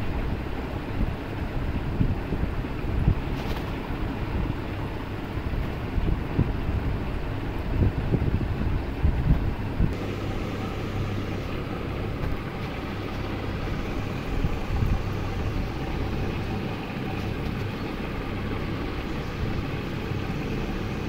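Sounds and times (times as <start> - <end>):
aquarium filter humming: 0.0 - 21.0
rushing water noise: 0.0 - 21.0.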